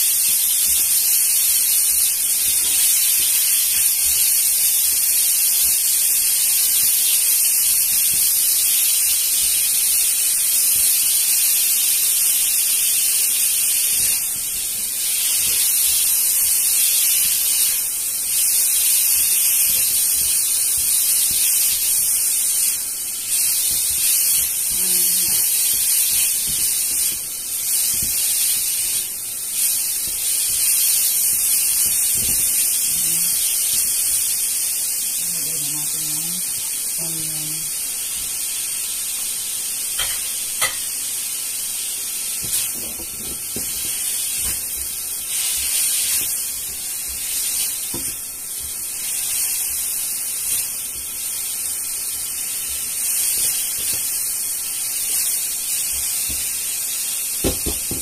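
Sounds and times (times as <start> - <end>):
meat sizzling in hot oil: 0.0 - 58.0.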